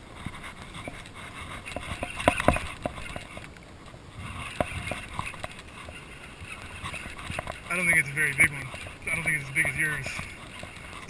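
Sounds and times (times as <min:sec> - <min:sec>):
clicks and knocks of hands and reel: 0:00.0 - 0:11.0
water: 0:00.0 - 0:11.0
wind: 0:00.0 - 0:11.0.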